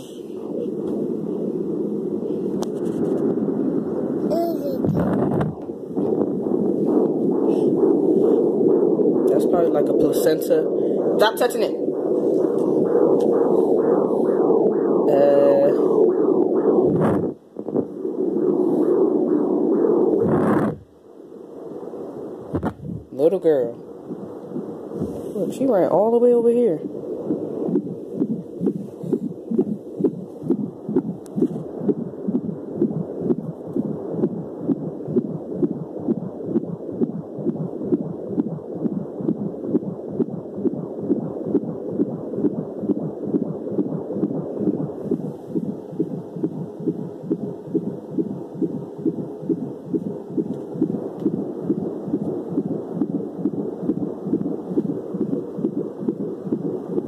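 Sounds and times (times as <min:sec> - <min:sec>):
fetal heartbeat whooshing beats: 0:00.0 - 0:57.0.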